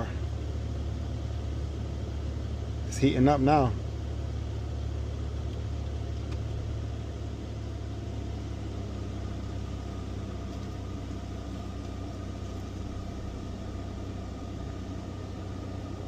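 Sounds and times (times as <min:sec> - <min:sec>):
car climate blower running: 0:00.0 - 0:16.0
coolant pump hum: 0:00.0 - 0:16.0.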